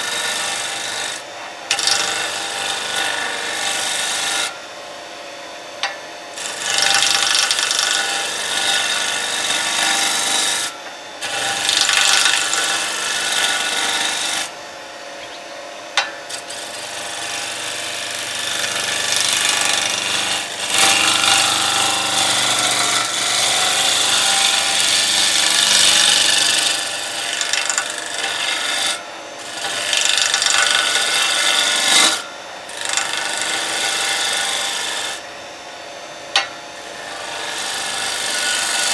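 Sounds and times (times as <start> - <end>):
gouge shaving wood on lathe: 0.0 - 4.6, 6.4 - 14.5, 16.3 - 35.2, 36.8 - 38.9
lathe motor hum: 0.0 - 38.9.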